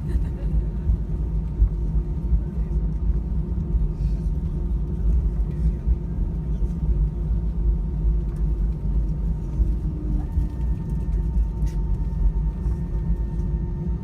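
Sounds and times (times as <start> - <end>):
faint steady whine: 0.0 - 14.0
jet cabin rumble: 0.0 - 14.0.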